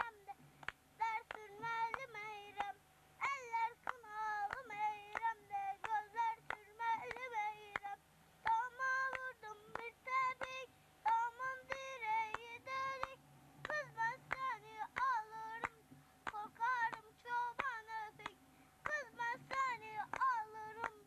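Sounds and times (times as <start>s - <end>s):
child singing folk song: 0.0s - 21.0s
hand claps: 0.0s - 21.0s.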